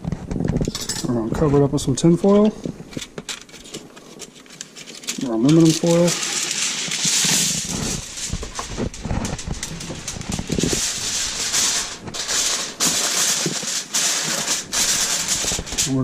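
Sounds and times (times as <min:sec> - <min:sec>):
aluminum foil crinkling: 0:01.5 - 0:16.0.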